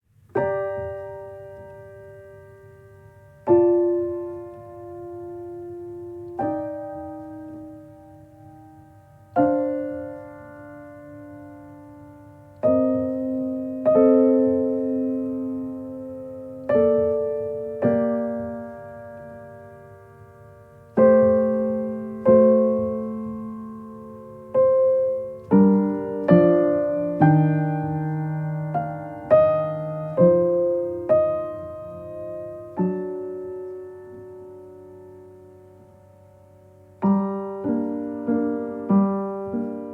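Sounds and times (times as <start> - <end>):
slow solo piano chords: 0.0 - 39.9.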